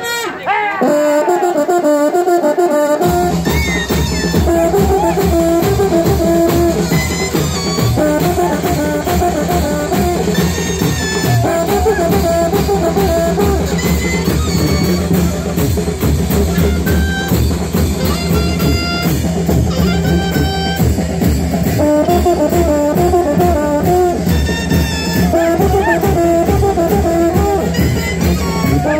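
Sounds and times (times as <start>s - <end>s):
brass band playing dance tune: 0.0s - 28.9s.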